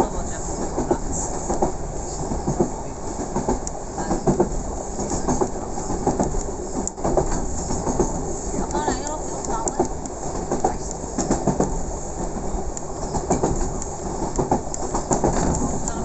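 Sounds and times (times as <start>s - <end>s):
train clacks and rattles: 0.0s - 16.0s
train wheels rumbling on track: 0.0s - 16.0s.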